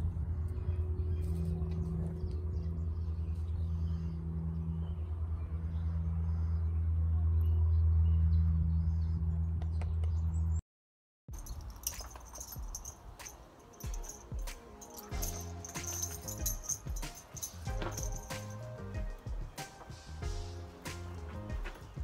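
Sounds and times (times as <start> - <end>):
birds chirping: 0.0 - 10.6, 11.4 - 22.0.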